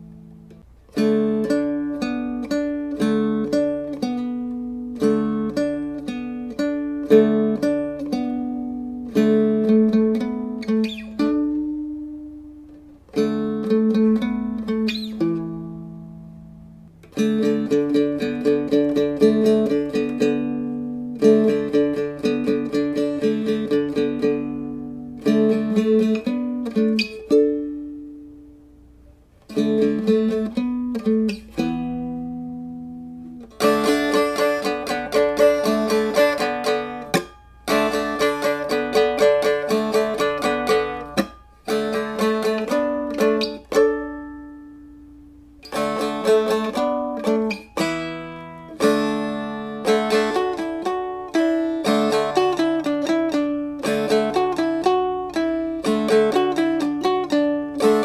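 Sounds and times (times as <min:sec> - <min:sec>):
plucked string instrument: 0:00.0 - 0:58.0.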